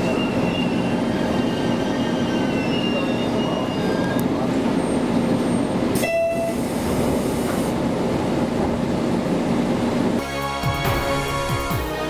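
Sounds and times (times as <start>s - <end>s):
train interior rumbling: 0.0s - 12.0s.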